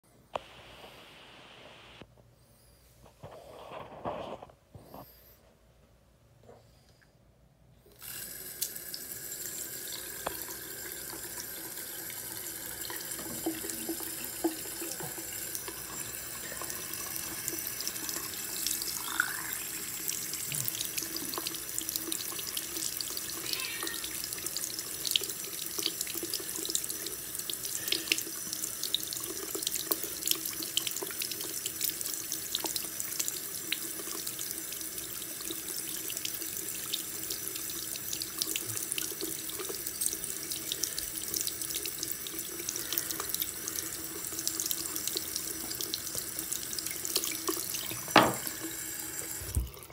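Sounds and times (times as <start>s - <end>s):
faucet running into sink: 7.9s - 49.9s.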